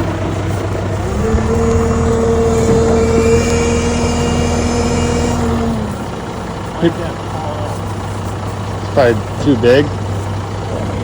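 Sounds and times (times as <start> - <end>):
baler whine: 0.0 - 11.0
tractor engine running: 0.0 - 11.0.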